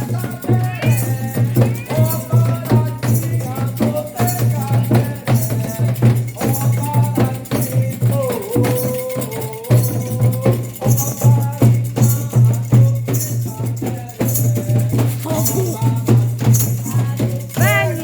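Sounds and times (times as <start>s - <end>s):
person singing: 0.0s - 5.6s, 6.4s - 11.8s, 12.4s - 18.0s
hand drums: 0.0s - 18.0s
shaken rattle: 0.0s - 18.0s.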